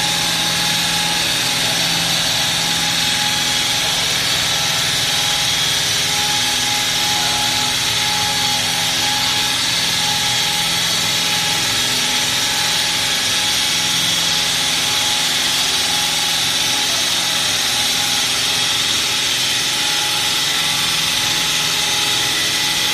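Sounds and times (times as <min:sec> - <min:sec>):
hydraulic wall saw running: 0:00.0 - 0:22.9.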